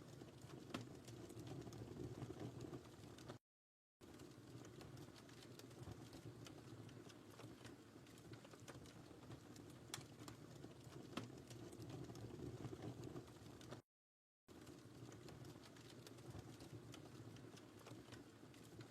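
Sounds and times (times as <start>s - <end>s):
wood fire crackling: 0.0s - 3.4s, 4.0s - 13.8s, 14.5s - 18.9s.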